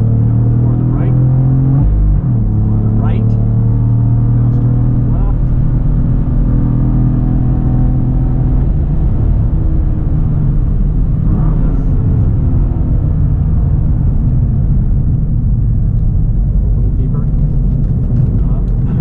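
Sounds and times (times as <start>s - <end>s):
car engine under power: 0.0s - 19.0s
road and wind rumble: 0.0s - 19.0s.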